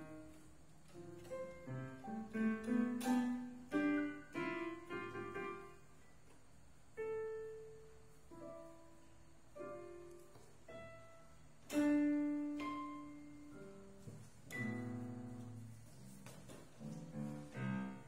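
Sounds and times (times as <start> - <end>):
piano chord: 0.0 - 6.2, 7.0 - 18.0
slow piano notes: 0.0 - 18.0.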